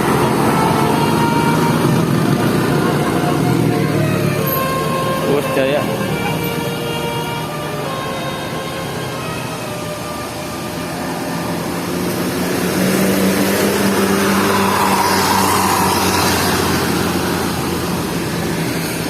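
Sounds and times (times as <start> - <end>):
bus driving past: 0.0 - 19.0.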